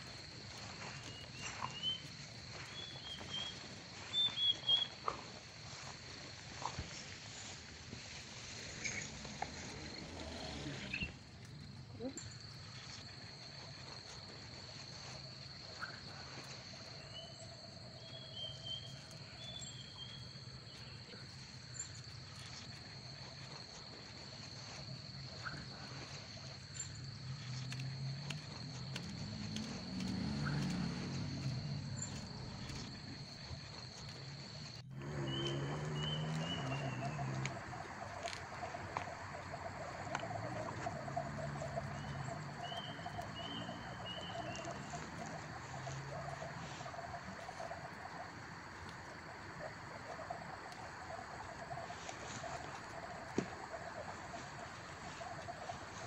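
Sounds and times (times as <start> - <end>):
insect high trill: 0.0 - 56.0
short repeated insect chirps: 0.0 - 56.0.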